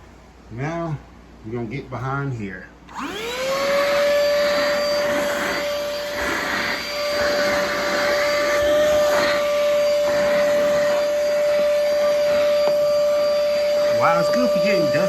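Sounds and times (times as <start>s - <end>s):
handheld vacuum motor whine: 2.9s - 15.0s
vacuum intake air rush: 2.9s - 15.0s.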